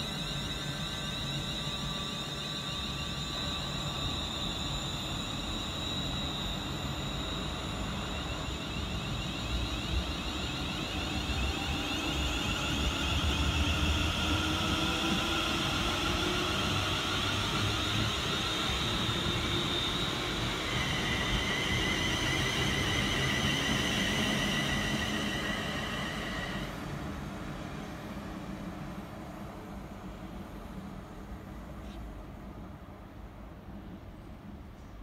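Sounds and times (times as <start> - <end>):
train traction motor whine: 0.0 - 31.6.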